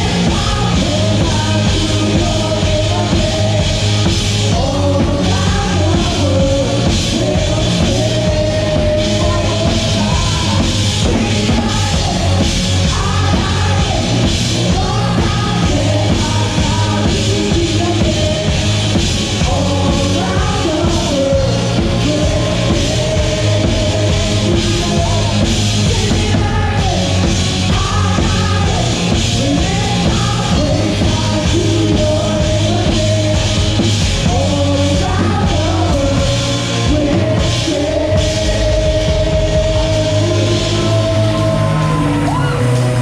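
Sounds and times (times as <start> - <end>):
person singing: 0.0 - 43.0
rock band playing: 0.0 - 43.0.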